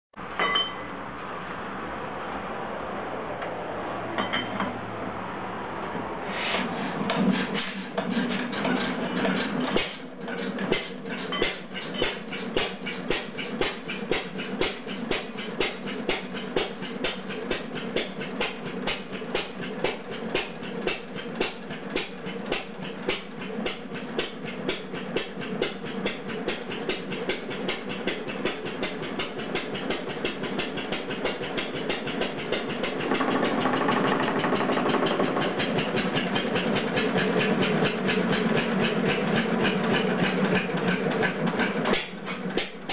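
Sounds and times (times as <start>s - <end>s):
stationary gas engine clattering: 6.0s - 42.9s.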